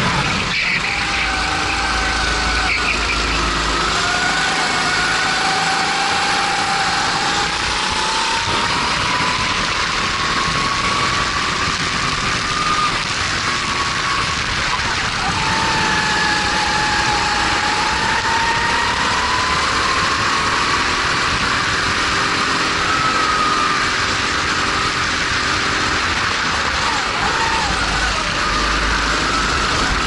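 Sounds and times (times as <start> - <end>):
kart engine running hard: 0.0 - 30.0.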